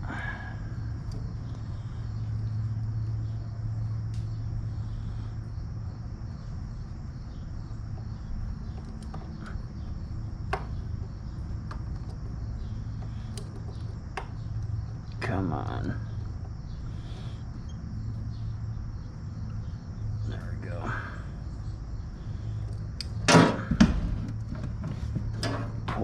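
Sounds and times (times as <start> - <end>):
crickets droning: 0.0 - 26.0
steady low hum: 0.0 - 26.0.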